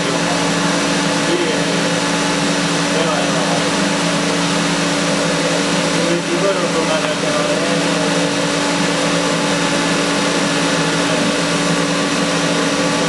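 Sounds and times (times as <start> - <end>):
pump motor humming: 0.0 - 13.0.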